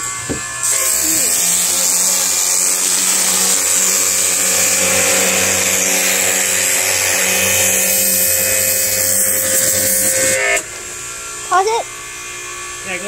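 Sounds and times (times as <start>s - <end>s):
pressure washer motor whine: 0.0s - 13.0s.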